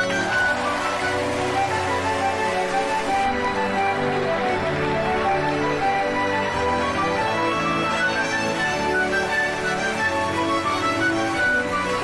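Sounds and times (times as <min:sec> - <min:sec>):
instrumental music with drone: 0:00.0 - 0:12.0.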